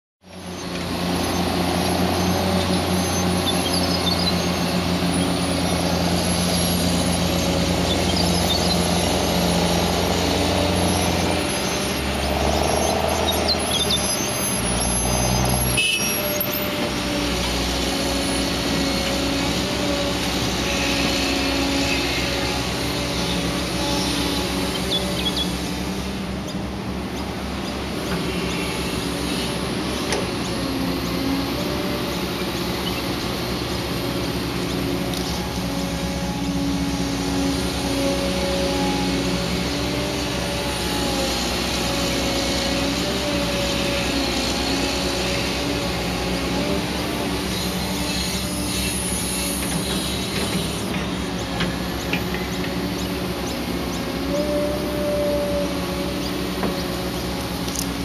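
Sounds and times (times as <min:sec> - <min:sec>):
diesel engines running: 0:00.2 - 0:58.0.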